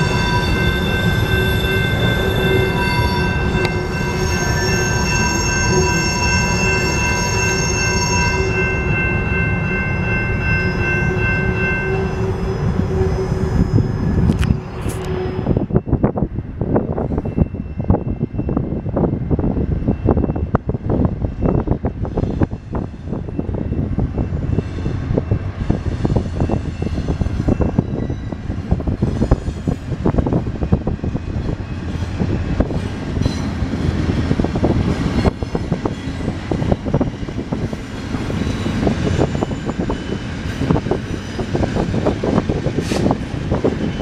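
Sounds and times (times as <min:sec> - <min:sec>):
train engine and wheel rumble: 0:00.0 - 0:44.0.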